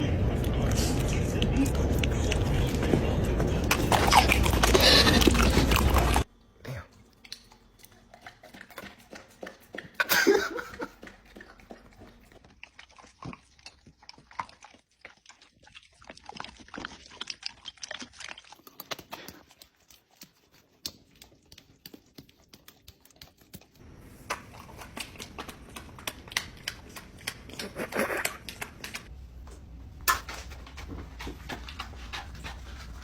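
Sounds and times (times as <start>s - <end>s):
pet chewing and crunching food: 0.0s - 33.0s.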